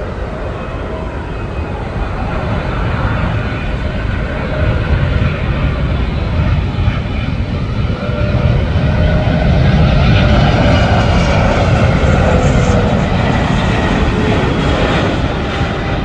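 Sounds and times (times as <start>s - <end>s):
faint jet whine: 0.0s - 16.0s
jet engines rumbling overhead: 0.0s - 16.0s.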